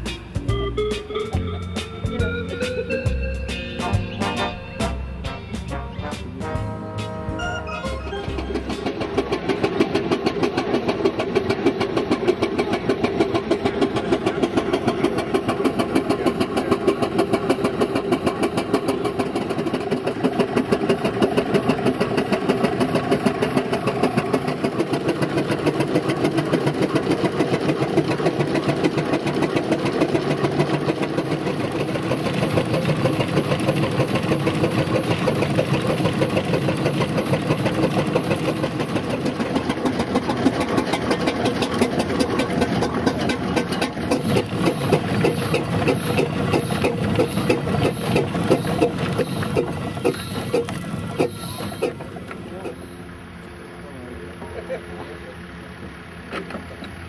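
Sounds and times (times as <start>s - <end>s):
deeper fuller engine sound: 0.0s - 57.0s
steam engines mechanical clatter: 0.0s - 57.0s.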